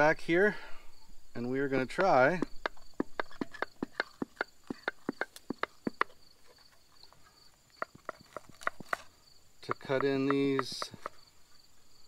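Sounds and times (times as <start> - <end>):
faint insect trill: 0.0 - 12.0.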